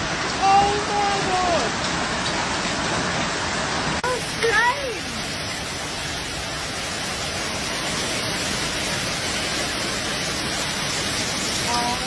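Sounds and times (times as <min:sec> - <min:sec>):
heavy hail and rain: 0:00.0 - 0:12.0.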